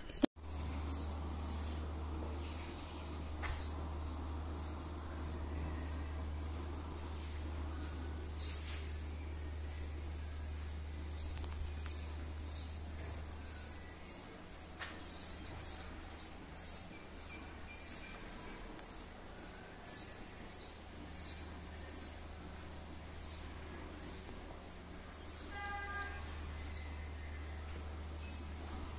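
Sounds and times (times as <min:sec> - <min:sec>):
low steady rumble: 0:00.4 - 0:28.9
small bird chirping: 0:00.4 - 0:28.9.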